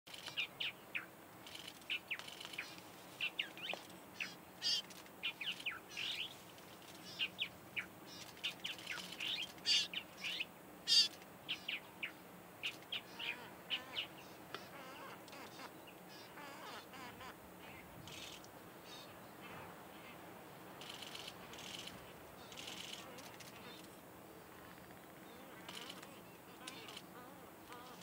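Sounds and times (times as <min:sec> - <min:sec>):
birds chirping: 0:00.1 - 0:28.0.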